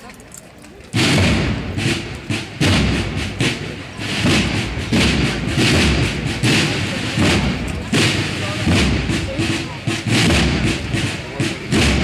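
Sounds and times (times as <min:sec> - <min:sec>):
marching drum beats: 0:00.9 - 0:12.0.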